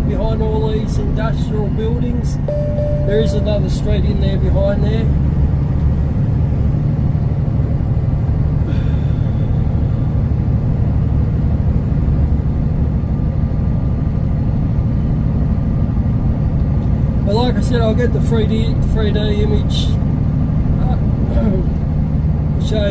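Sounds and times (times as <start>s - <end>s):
road noise: 0.0s - 22.9s
truck engine drone: 0.0s - 22.9s.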